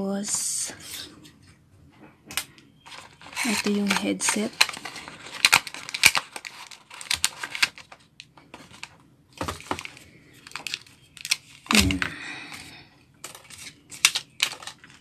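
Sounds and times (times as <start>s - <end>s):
earphones rustling: 0.2s - 15.0s.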